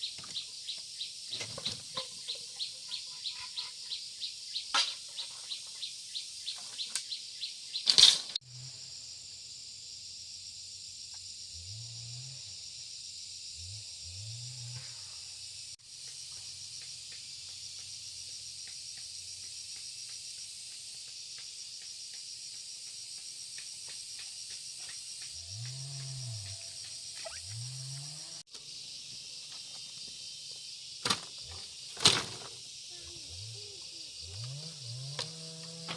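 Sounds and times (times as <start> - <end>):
high insect drone: 0.0 - 35.9
insects chirping: 0.0 - 35.9.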